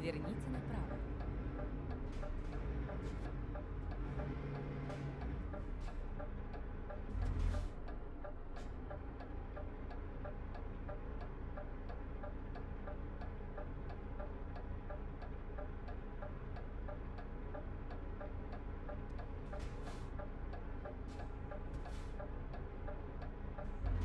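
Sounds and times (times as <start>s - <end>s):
truck engine rumble: 0.0s - 24.0s.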